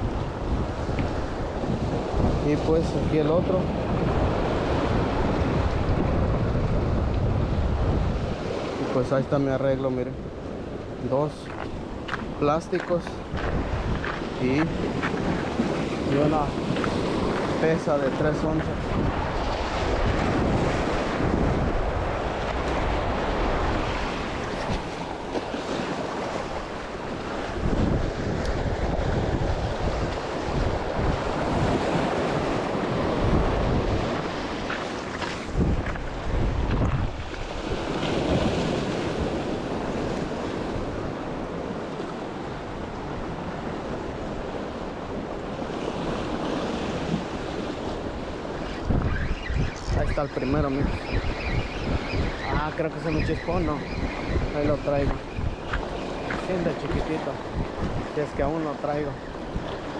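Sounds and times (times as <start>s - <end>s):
wind buffeting microphone: 0.0s - 9.3s, 10.1s - 59.9s
waves breaking on rocks: 7.8s - 51.0s, 52.4s - 59.9s.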